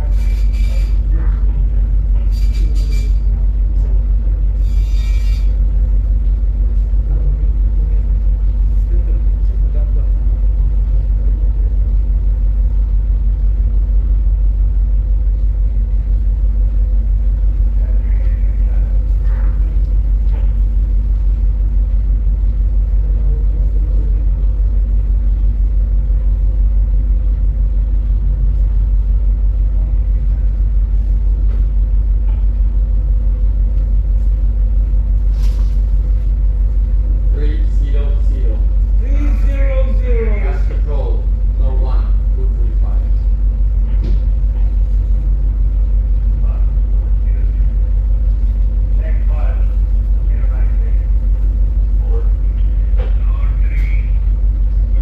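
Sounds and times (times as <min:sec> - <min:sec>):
constant hum: 0:00.0 - 0:55.0
deep machinery drone: 0:00.0 - 0:55.0.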